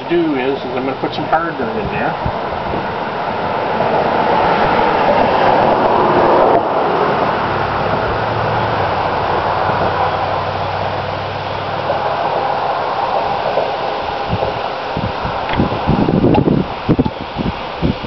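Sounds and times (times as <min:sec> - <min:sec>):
road vehicle passing: 0:00.0 - 0:18.0
steady low hum: 0:00.0 - 0:18.0.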